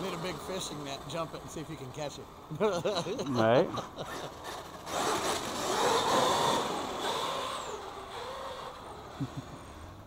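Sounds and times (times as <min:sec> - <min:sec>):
radio-controlled car driving fast: 0:00.0 - 0:02.4, 0:03.4 - 0:10.0.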